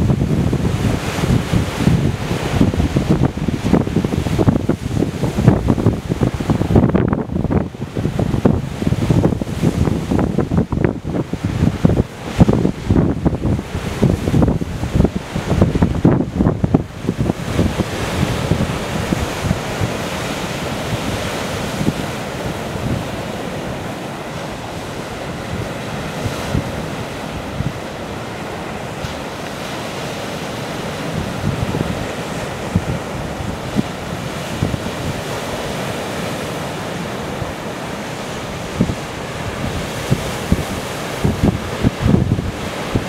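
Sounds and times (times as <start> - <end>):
sea surf breaking on rocks: 0.0 - 43.0
wind gusting on microphone: 0.0 - 43.0.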